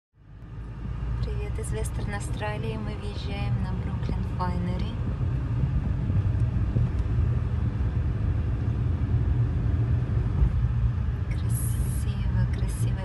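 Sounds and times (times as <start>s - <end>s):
car engine and road noise: 0.2s - 13.0s.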